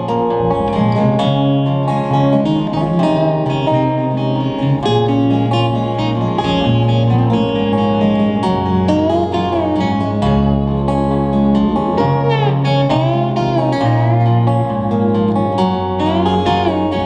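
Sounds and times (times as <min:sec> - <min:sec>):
acoustic guitar plucked and strummed: 0:00.0 - 0:17.0
low bass notes: 0:00.0 - 0:17.0.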